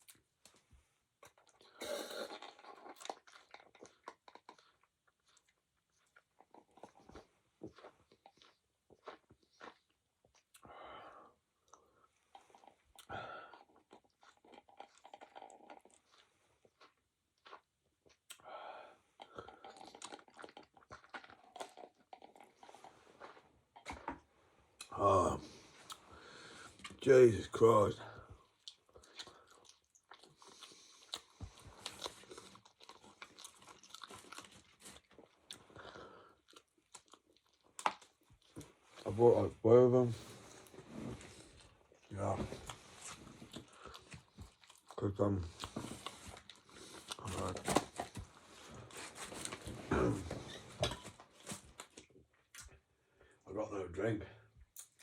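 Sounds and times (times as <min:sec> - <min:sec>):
person chewing food: 0:00.0 - 0:27.0, 0:28.0 - 0:39.1, 0:40.2 - 0:53.4, 0:54.6 - 0:55.0.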